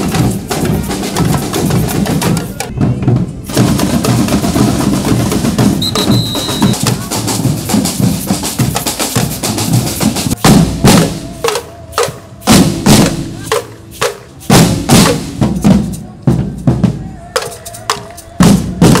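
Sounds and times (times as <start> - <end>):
marching snare and bass drums: 0.0 - 19.0.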